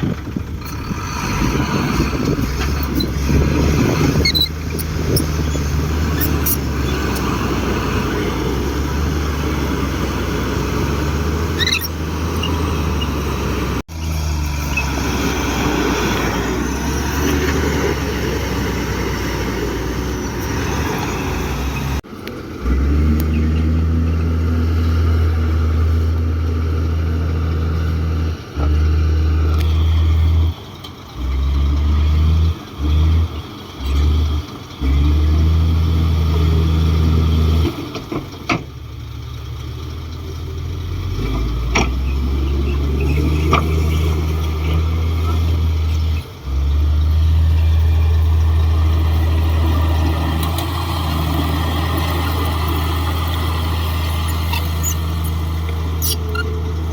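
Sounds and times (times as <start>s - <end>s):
bulldozer diesel engine humming: 0.0s - 56.9s.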